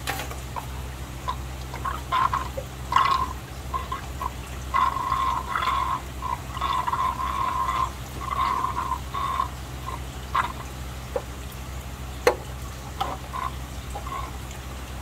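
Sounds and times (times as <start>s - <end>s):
aquarium water gurgling and splashing: 0.0s - 15.0s
steady low hum: 0.0s - 15.0s.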